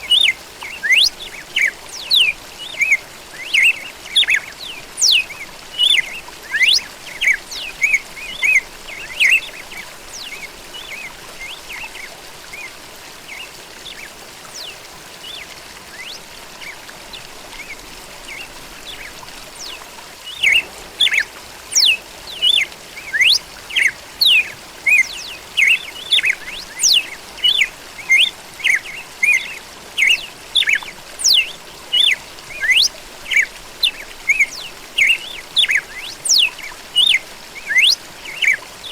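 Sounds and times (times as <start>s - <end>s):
faint steady hiss: 0.0s - 38.9s
bird singing chirps and whistles: 0.1s - 12.7s, 13.3s - 16.8s, 17.6s - 38.9s.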